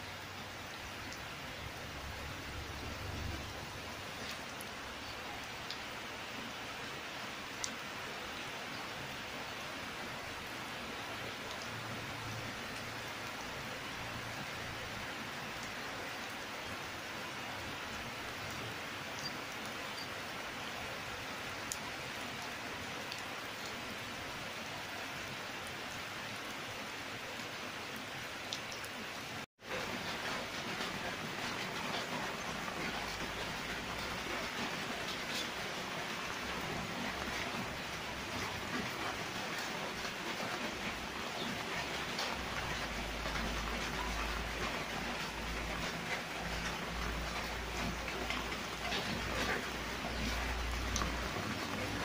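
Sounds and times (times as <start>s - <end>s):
steady rain on plants: 0.0s - 52.0s.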